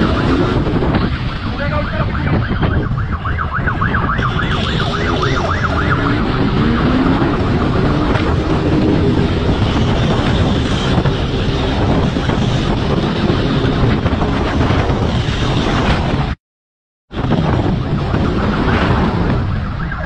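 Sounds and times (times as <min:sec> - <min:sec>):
siren wail: 0:00.0 - 0:14.0, 0:17.2 - 0:20.0
wind rush on microphone: 0:00.0 - 0:16.4, 0:17.1 - 0:20.0.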